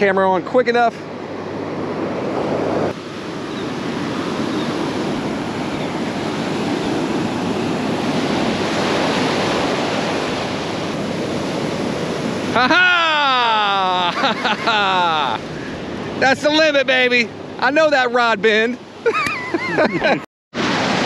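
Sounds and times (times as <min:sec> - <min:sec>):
surf breaking on a beach: 0:00.0 - 0:21.0.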